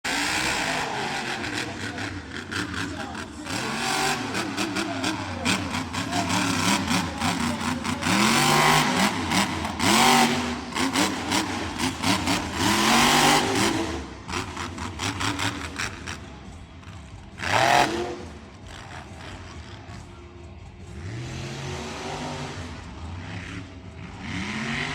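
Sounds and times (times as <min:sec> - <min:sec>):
truck engine revving: 0:00.0 - 0:24.9.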